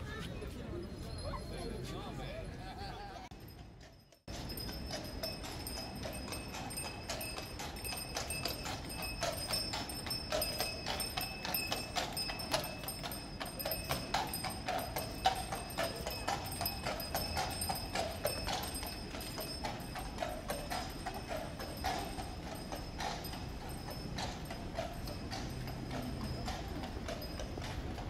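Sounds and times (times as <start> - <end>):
horse hooves clip-clopping on asphalt: 3.4 - 28.0.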